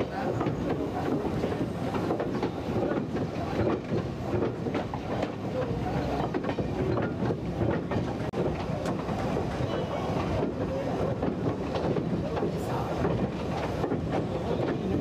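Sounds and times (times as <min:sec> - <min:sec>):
train rumbling: 0:00.0 - 0:15.0
wheels clicking over rail joints: 0:00.0 - 0:15.0.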